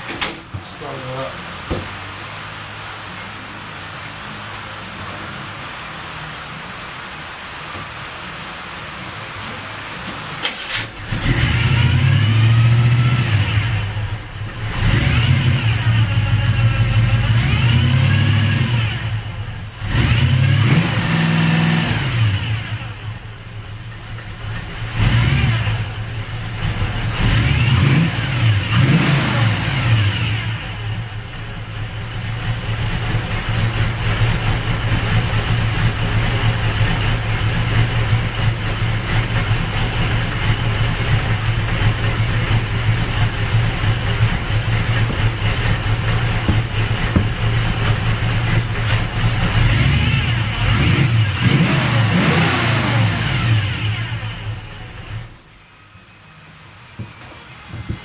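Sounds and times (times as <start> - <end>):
truck engine revving and idling: 0.0 - 58.0.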